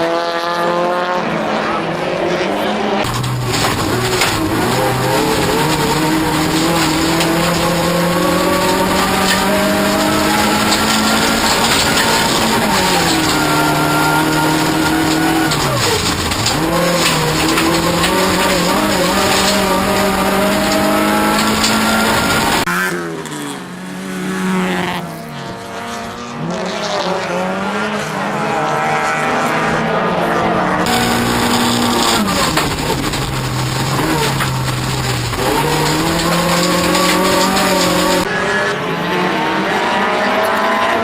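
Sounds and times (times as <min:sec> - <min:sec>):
racing car engine revving: 0:00.0 - 0:41.0
tyre and road noise: 0:00.0 - 0:41.0.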